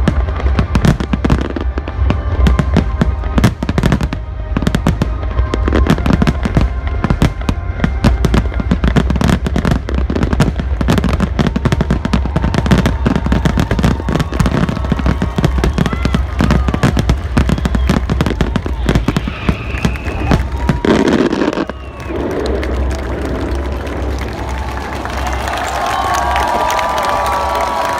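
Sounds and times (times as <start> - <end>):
fireworks bangs and crackles: 0.0 - 27.9
music playing: 0.0 - 27.9.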